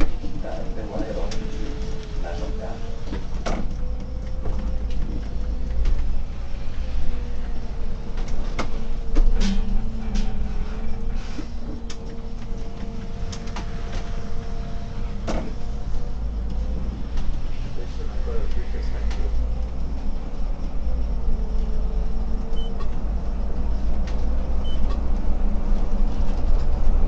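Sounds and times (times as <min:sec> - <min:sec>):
bus engine rumble and whine: 0:00.0 - 0:27.0.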